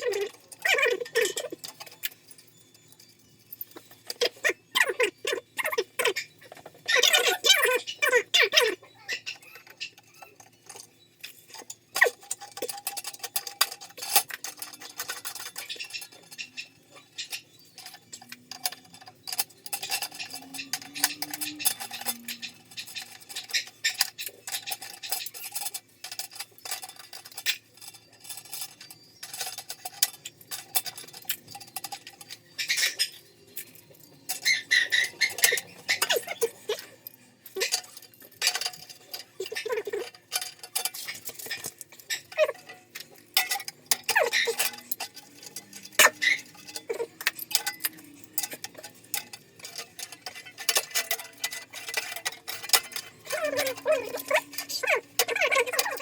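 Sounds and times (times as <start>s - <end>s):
tools clinking on metal pipes: 0.0s - 56.0s.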